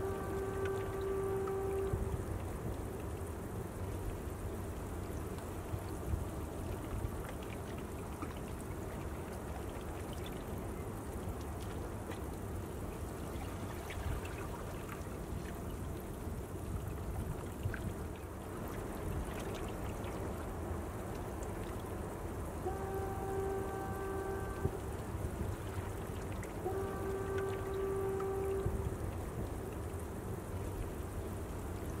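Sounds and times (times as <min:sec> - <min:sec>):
harbour water lapping: 0:00.0 - 0:32.0
small scattered drips: 0:00.0 - 0:32.0
steady low rumble: 0:00.0 - 0:32.0.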